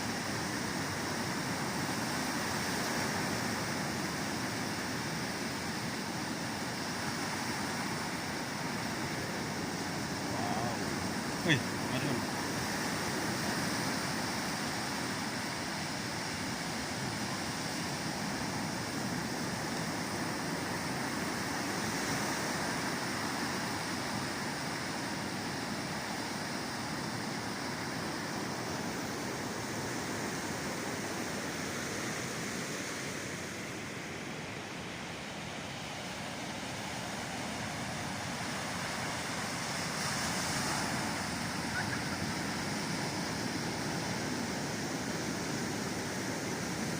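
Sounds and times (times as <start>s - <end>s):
waves breaking: 0.0s - 46.9s.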